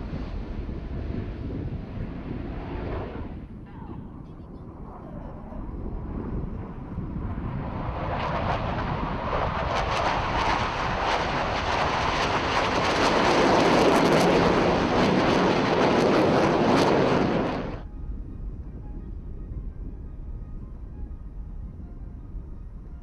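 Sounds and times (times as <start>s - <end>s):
jet engine roar: 0.0s - 18.5s.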